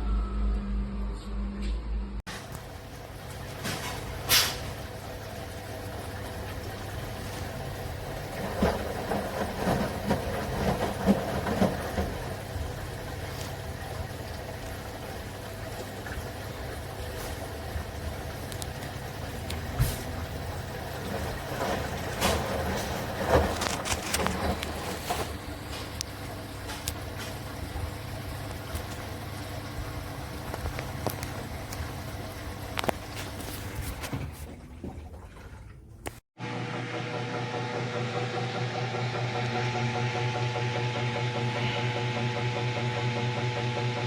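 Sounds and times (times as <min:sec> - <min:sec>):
washing machine humming: 0:00.0 - 0:44.0.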